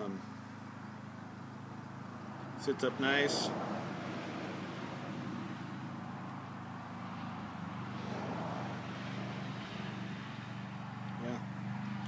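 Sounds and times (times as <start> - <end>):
distant engine humming: 0.0 - 12.0.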